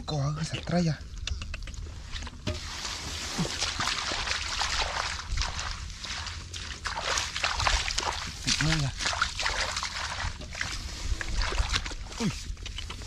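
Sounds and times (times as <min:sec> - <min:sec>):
hands splashing in muddy water: 0:02.5 - 0:13.0.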